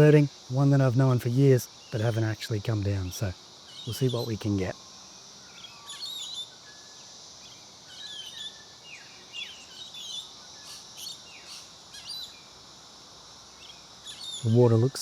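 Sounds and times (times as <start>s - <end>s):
birds chirping: 0.0s - 12.6s, 13.5s - 15.0s
high insect drone: 0.0s - 15.0s.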